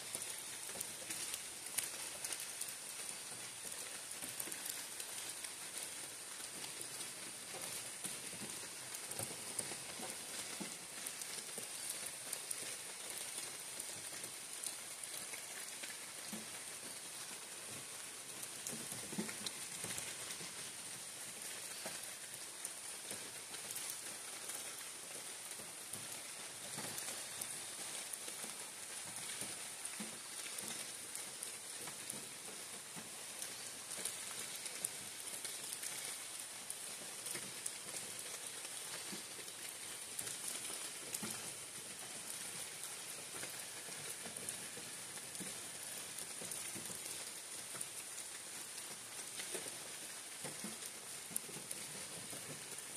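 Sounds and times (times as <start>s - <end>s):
rain falling on leaves: 0.0s - 52.9s
raindrops ticking: 0.0s - 52.9s.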